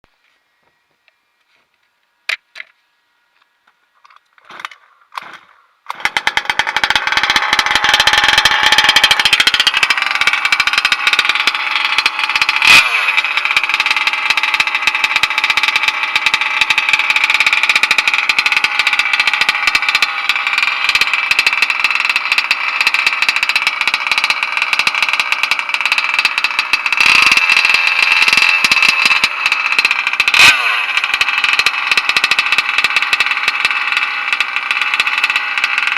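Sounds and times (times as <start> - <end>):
small two-stroke engine running: 4.4 - 35.9.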